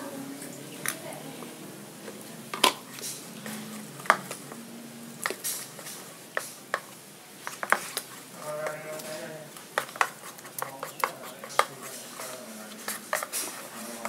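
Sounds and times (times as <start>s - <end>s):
spoon stirring thick batter: 0.0s - 14.0s.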